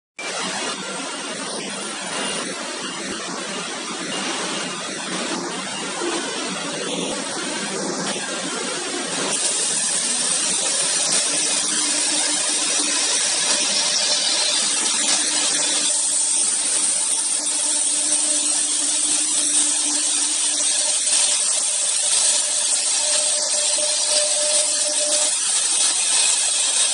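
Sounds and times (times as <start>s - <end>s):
cnc router whining: 0.2s - 26.9s.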